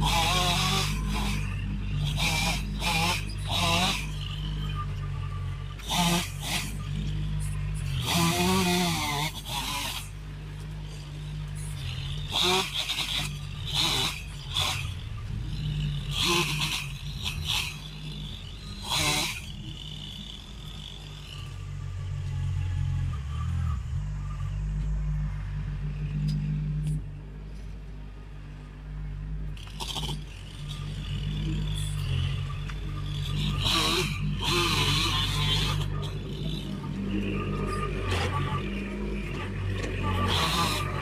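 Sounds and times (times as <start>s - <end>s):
tracked machine diesel engine: 0.0s - 41.0s.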